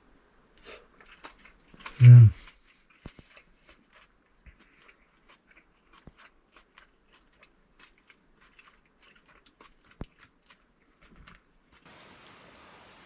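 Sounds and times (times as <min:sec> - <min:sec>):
person chewing: 0:00.6 - 0:11.4.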